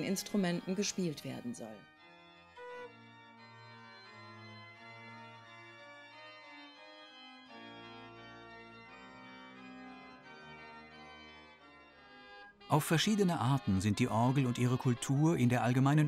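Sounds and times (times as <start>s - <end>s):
pipe organ playing: 0.0s - 16.0s.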